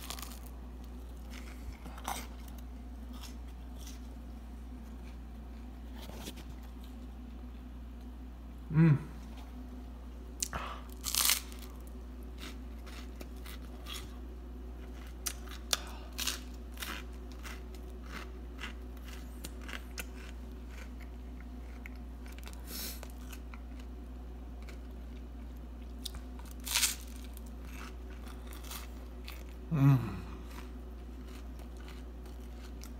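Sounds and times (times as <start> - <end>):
person chewing crispy bread: 0.0 - 7.1, 10.4 - 32.9.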